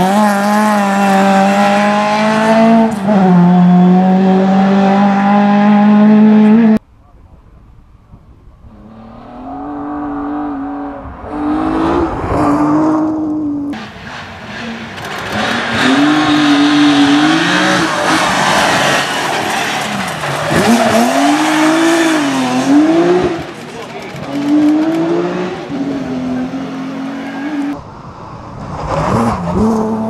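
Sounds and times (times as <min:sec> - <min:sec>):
rally car engines revving: 0:00.0 - 0:06.8, 0:08.6 - 0:30.0.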